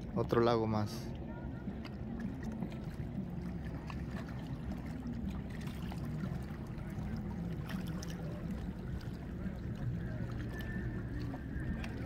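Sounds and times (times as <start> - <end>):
lake water lapping: 0.0 - 12.0
low rumble: 0.0 - 12.0.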